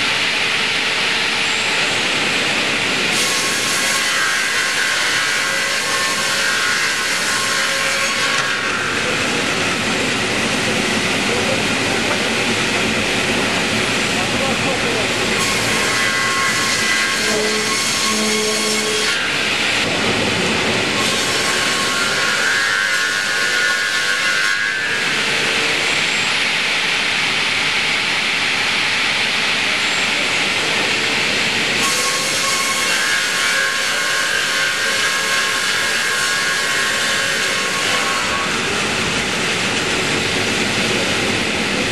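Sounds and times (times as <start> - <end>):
sawmill blades cutting log: 0.2 - 26.6, 27.8 - 41.9.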